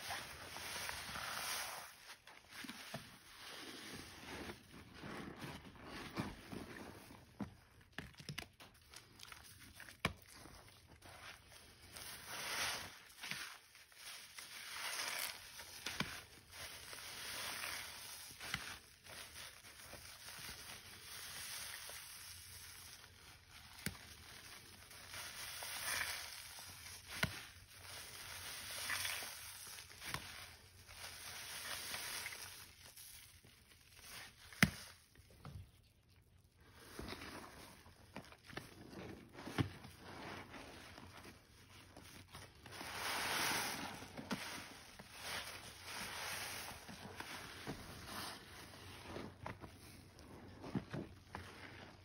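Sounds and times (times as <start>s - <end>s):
soapy sponge squishing: 0.0s - 52.0s.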